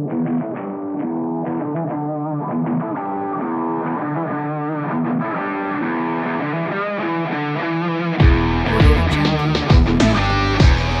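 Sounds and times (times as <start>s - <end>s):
guitar riff of picked notes: 0.0s - 11.0s.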